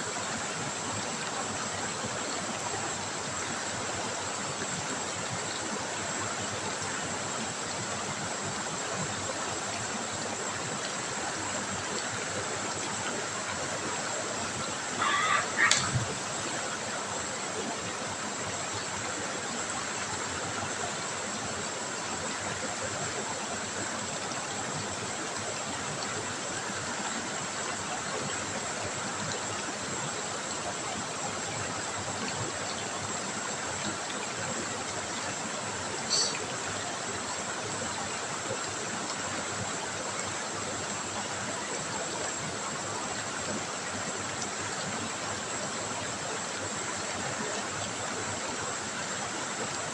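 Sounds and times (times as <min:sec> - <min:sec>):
river water running: 0:00.0 - 0:49.9.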